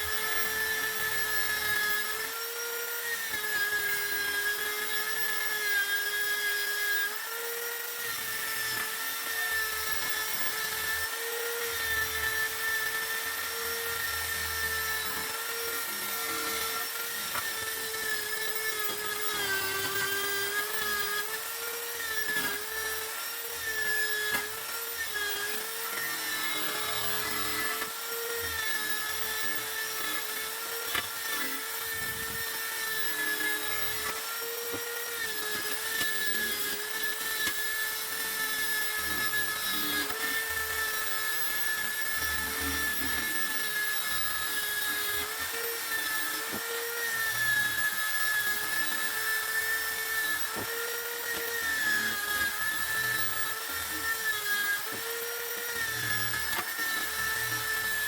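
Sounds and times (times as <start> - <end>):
small power tool whining: 0.0 - 58.0.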